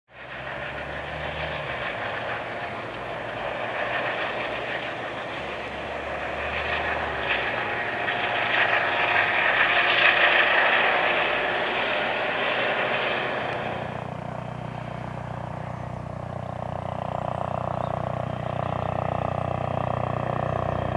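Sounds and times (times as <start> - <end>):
helicopter flying low past: 0.1 - 20.9.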